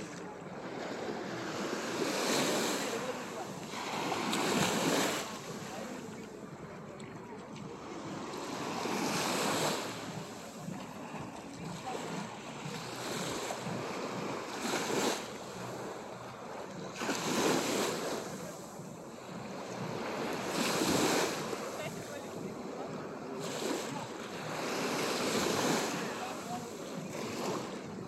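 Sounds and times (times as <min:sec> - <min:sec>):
small waves washing onto shore: 0:00.0 - 0:28.0.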